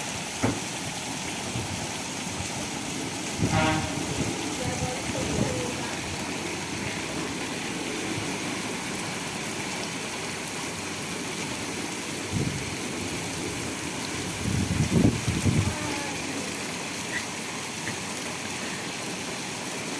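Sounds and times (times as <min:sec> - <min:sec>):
heavy rain falling: 0:00.0 - 0:19.9.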